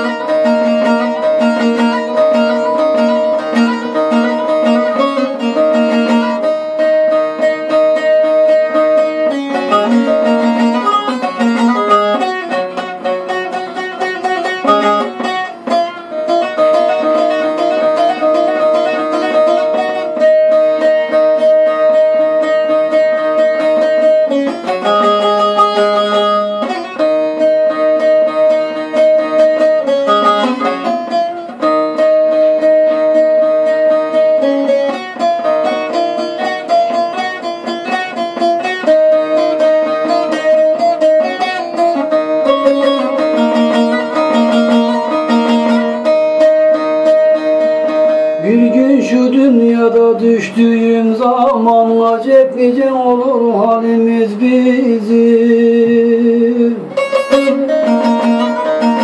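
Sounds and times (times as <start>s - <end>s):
long-necked lute strummed solo: 0.0s - 59.0s.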